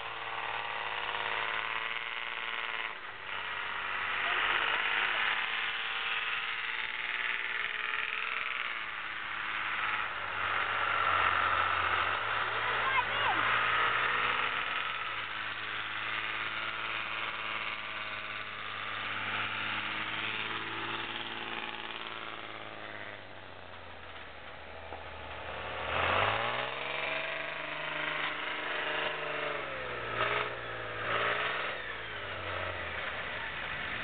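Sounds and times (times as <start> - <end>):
snow vehicle engine running: 0.0 - 34.0.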